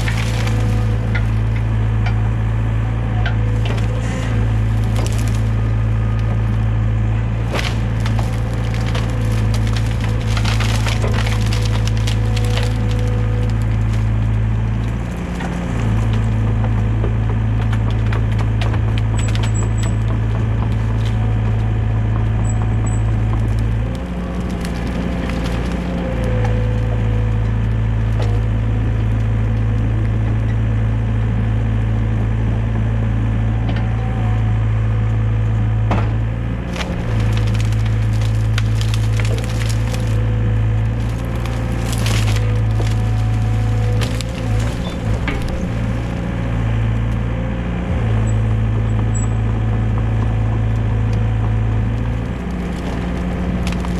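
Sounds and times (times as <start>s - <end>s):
branches cracking and snapping: 0.0s - 31.8s, 35.4s - 53.9s
excavator diesel engine droning: 0.0s - 53.9s.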